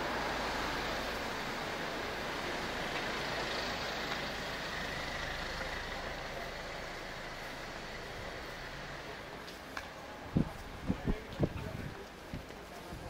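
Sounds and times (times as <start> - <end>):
cars passing: 0.0 - 12.7.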